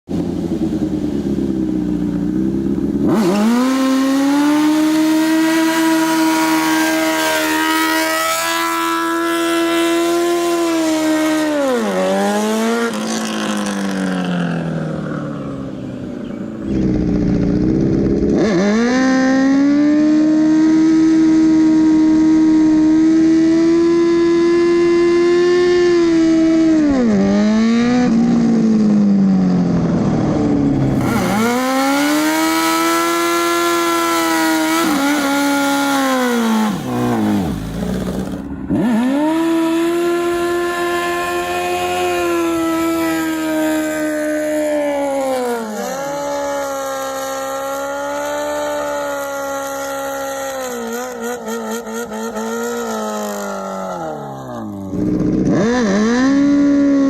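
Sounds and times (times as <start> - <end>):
motorcycle engine at high revs: 0.1 - 57.0.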